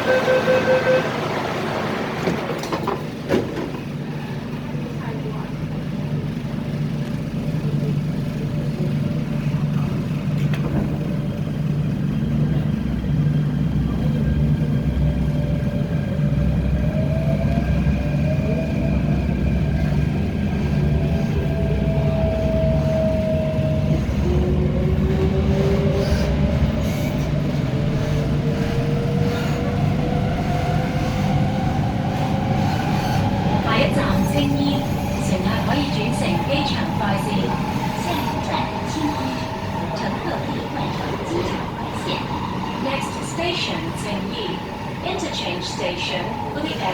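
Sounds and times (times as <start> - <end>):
train wheels rumbling on track: 0.0 - 46.9.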